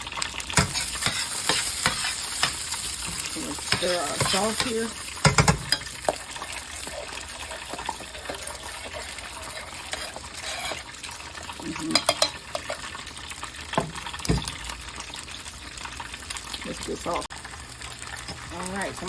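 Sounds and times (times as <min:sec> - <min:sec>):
deep-frying in hot oil: 0:00.0 - 0:19.0.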